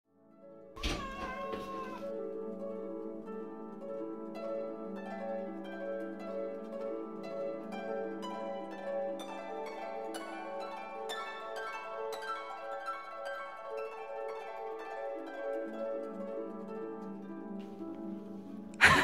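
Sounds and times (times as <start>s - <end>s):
harp-like plucked string music: 0.3s - 19.0s.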